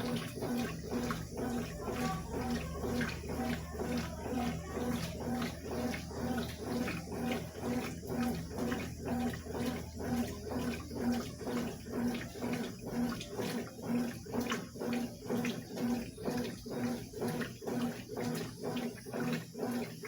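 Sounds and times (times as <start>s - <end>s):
motor hum: 0.0s - 20.0s
washing machine sloshing: 0.0s - 20.0s.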